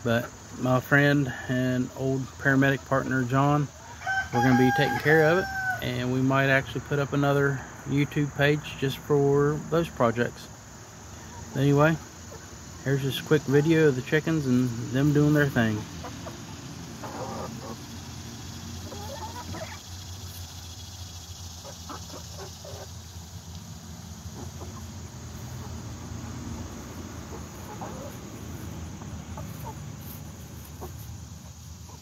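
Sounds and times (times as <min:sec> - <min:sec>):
young chickens clucking: 0:00.2 - 0:32.0.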